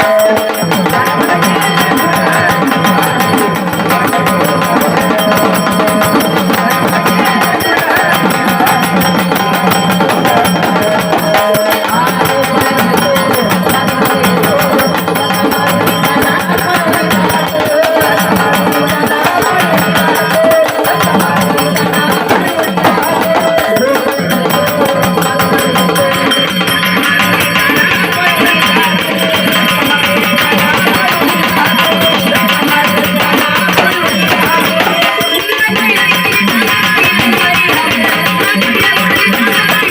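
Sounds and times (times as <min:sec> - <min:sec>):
hand-drum percussion: 0:00.0 - 0:39.9.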